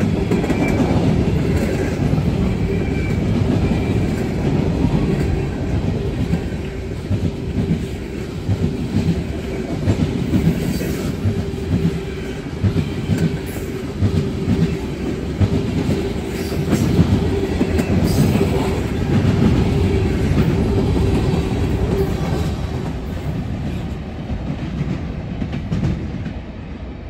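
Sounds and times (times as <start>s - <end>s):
train whine: 0.0s - 27.0s.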